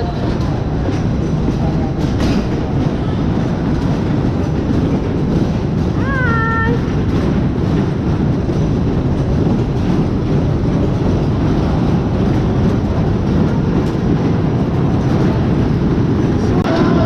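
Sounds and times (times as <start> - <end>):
fairground ride rumbling: 0.0 - 17.0.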